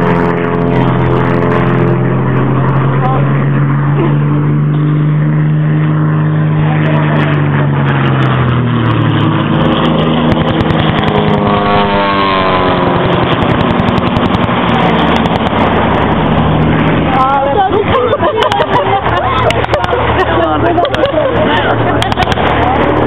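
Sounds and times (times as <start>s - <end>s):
propeller aircraft engine droning: 0.0s - 23.0s
sweeping tone of passing plane: 0.0s - 23.0s.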